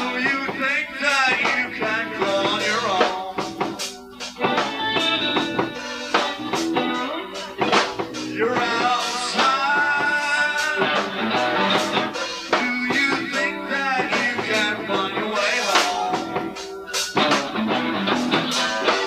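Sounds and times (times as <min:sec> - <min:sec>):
electric guitar: 0:00.0 - 0:19.0
live band playing: 0:00.0 - 0:19.0
drum hits: 0:01.4 - 0:19.0.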